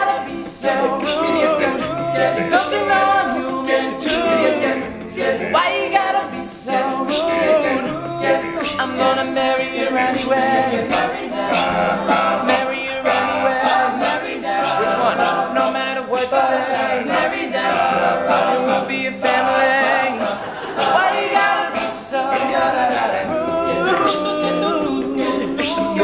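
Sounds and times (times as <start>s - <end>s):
male a cappella singing: 0.0s - 26.0s
vocal percussion beat: 0.0s - 26.0s.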